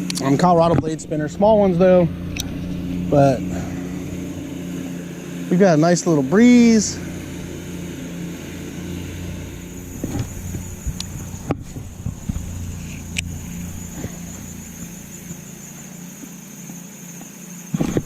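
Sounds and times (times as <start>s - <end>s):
electric motor humming and whining: 0.0s - 18.0s.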